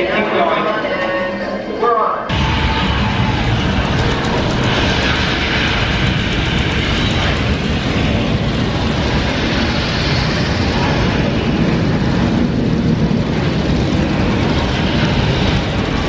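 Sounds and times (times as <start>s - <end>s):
rocket launch roar: 2.3s - 16.0s.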